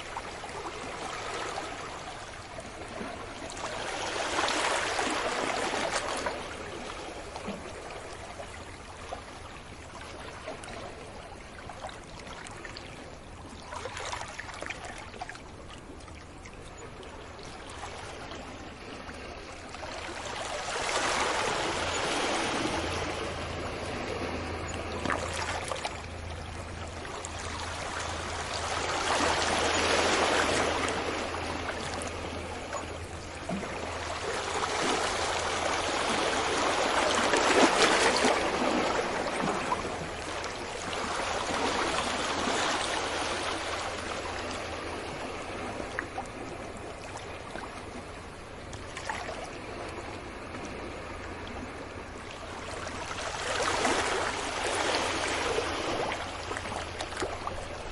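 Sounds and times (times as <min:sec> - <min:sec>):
sea waves breaking on beach: 0:00.0 - 0:12.9, 0:17.5 - 0:57.9.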